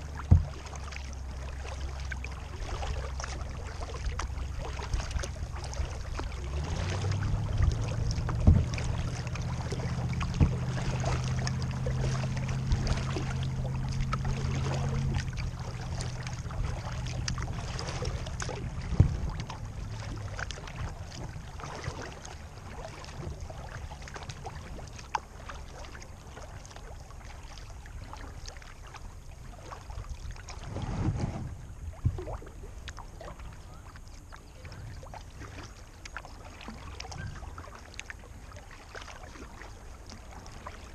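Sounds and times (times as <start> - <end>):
low steady hum: 0.0 - 40.9
water lapping around a kayak: 0.0 - 40.9.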